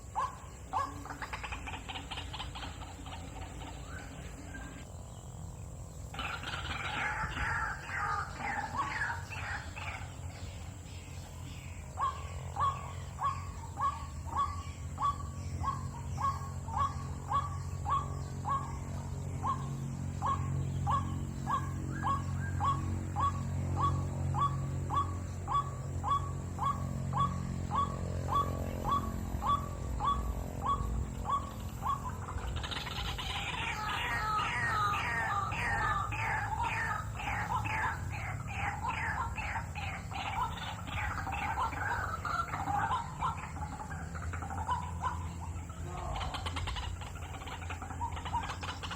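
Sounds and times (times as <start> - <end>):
waterhen kwak calls: 0.0 - 4.9, 6.0 - 48.9
bird croaking calls: 0.0 - 48.9
low steady hum: 0.0 - 48.9.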